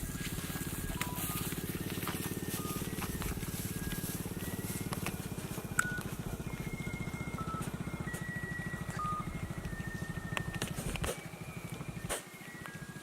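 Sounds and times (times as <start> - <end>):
small engine running steadily: 0.0 - 13.0.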